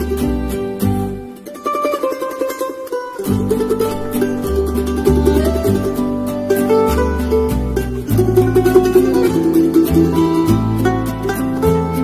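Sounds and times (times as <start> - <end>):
bass: 0.0 - 12.0
plucked string music: 0.0 - 12.0.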